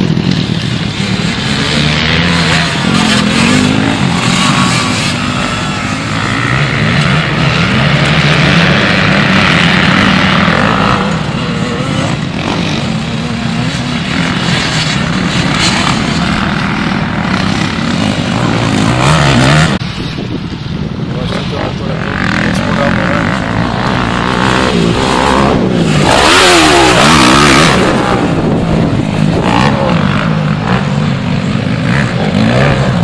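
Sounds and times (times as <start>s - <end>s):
dirt bike engine revving: 0.0s - 19.8s, 21.2s - 33.0s.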